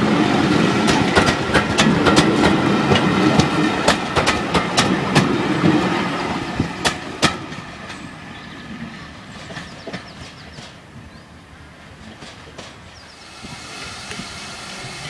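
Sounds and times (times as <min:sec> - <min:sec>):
train rumble: 0:00.0 - 0:15.0
train wheels clattering over rail joints: 0:00.6 - 0:08.2, 0:09.2 - 0:10.9, 0:12.0 - 0:15.0.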